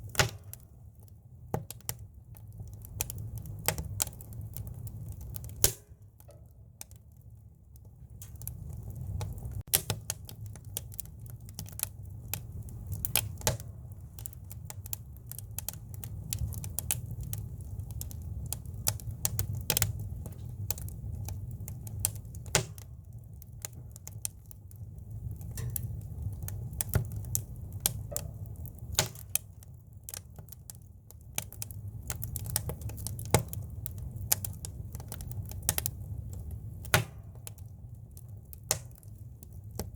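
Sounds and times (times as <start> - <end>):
campfire crackling and popping: 0.0 - 39.9
low fire rumble: 0.0 - 39.9.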